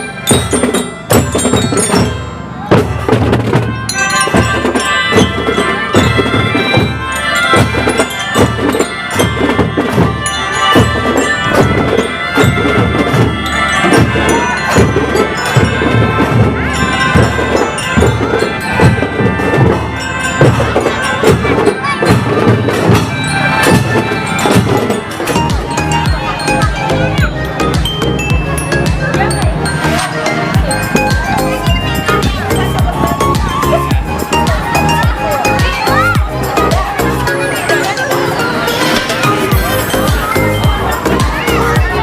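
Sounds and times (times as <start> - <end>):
marching drums beating: 0.2 - 29.8, 30.6 - 37.3, 39.4 - 42.0
sustained melody line: 3.4 - 42.0.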